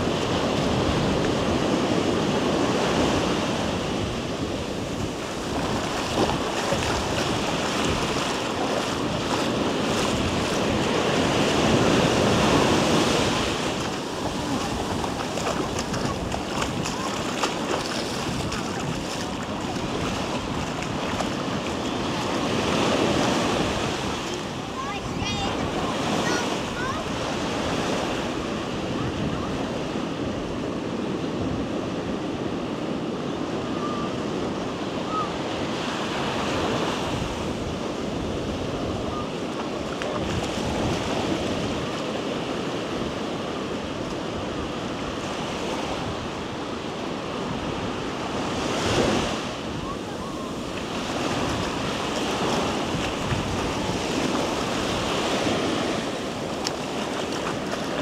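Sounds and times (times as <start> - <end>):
wind buffeting microphone: 0.0 - 35.2, 36.3 - 58.0
ocean surf breaking: 0.0 - 58.0.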